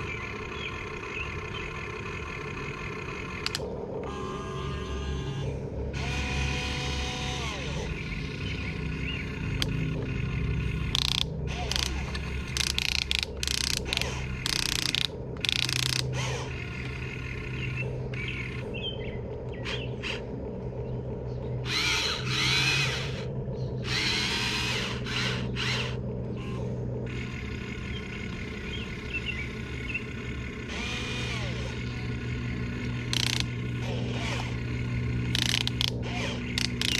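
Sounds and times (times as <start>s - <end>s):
electric motors whirring: 0.0s - 36.9s
steady low hum: 0.0s - 36.9s.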